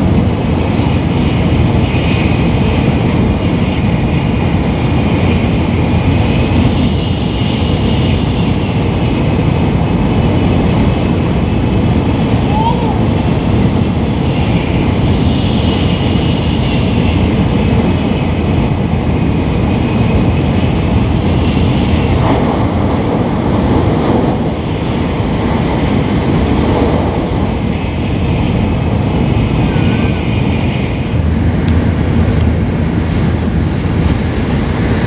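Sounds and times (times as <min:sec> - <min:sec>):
train wheels rumbling: 0:00.0 - 0:35.0.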